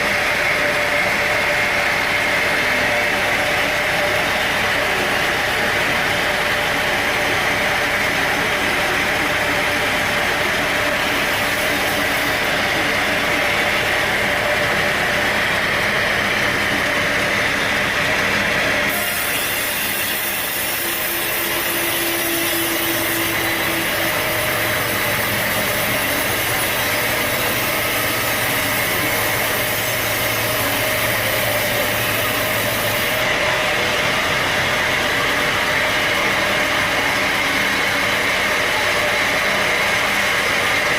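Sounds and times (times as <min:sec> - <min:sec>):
saw cutting through log: 0:00.0 - 0:40.9
sawmill machinery running: 0:00.0 - 0:40.9.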